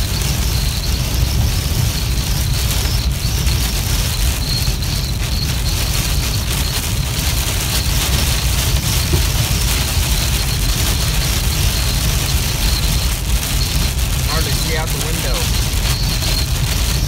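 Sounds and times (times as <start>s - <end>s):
car cabin rumble at speed: 0.0s - 17.0s
rain hiss: 0.0s - 17.0s
tyres on wet pavement: 0.0s - 17.0s.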